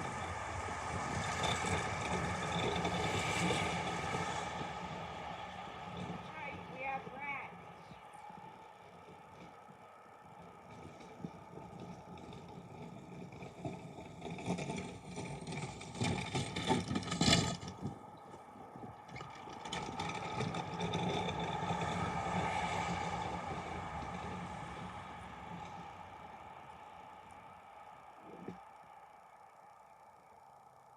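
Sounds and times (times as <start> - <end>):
snow plow motor whining: 0.0 - 30.9.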